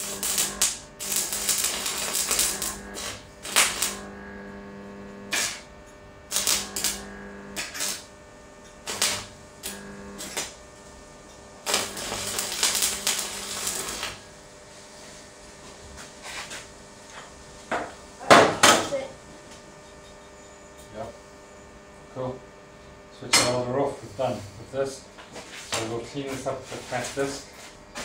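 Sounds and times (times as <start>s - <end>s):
welding arc crackling: 0.0s - 28.0s
welding machine hum: 0.0s - 28.0s.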